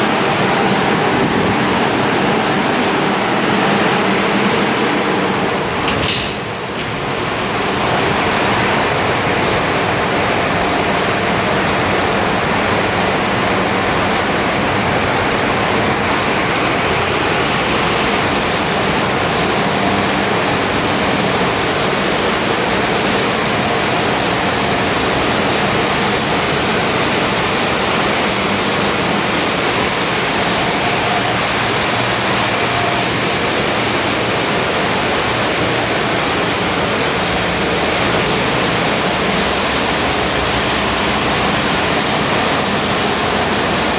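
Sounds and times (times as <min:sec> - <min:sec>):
engine room machinery noise: 0:00.0 - 0:43.9.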